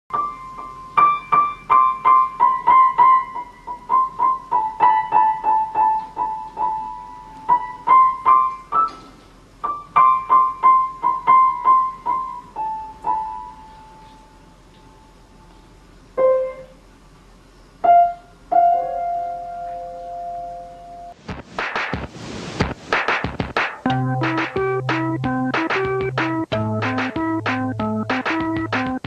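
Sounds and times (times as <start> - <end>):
piano notes: 0.1 - 16.9, 17.8 - 21.2, 23.4 - 29.0.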